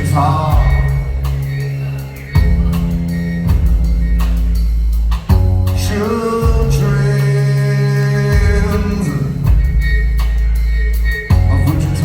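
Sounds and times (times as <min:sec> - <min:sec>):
person singing: 0:00.0 - 0:03.5, 0:05.7 - 0:12.0
drum hits: 0:00.0 - 0:07.3, 0:08.2 - 0:12.0
deep bass notes: 0:00.0 - 0:12.0.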